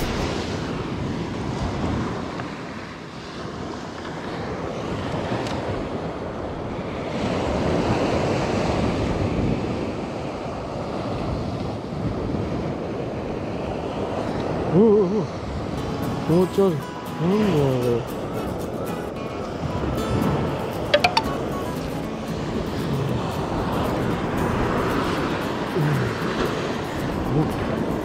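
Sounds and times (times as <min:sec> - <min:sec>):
surf washing onto beach: 0:00.0 - 0:10.6, 0:15.3 - 0:28.0.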